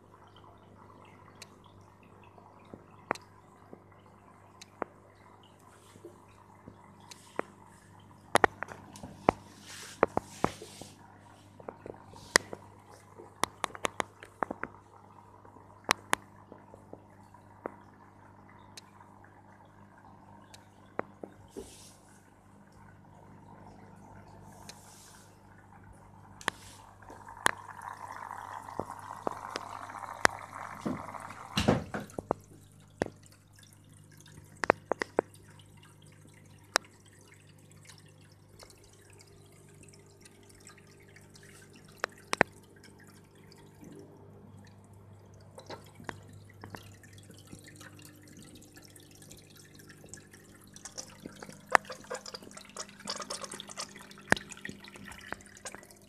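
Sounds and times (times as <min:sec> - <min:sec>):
steady low hum: 0:00.0 - 0:56.0
water dripping into aquarium: 0:00.0 - 0:56.0.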